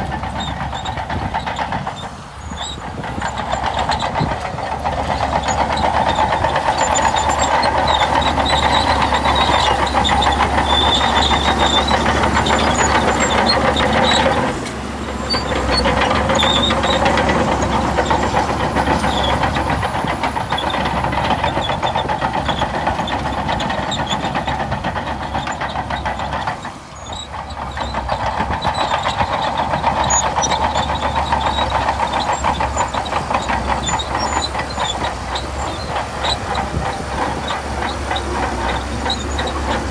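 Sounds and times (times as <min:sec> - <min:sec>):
bulldozer diesel engine under load: 0:00.0 - 0:39.9
steel tracks clattering: 0:00.0 - 0:39.9.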